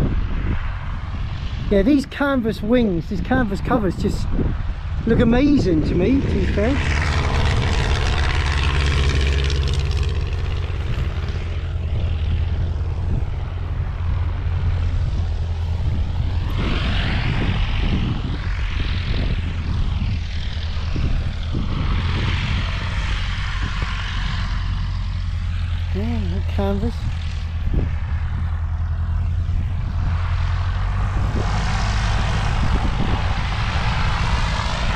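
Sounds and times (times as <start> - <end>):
propeller aircraft engine: 0.0 - 34.9.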